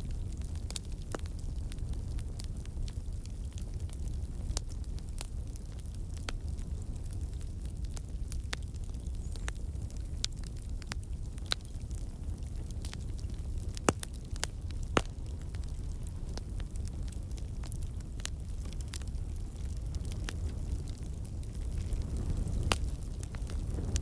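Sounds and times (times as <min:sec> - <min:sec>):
flames rumbling: 0:00.0 - 0:24.0
wood fire pops and snaps: 0:00.1 - 0:24.0.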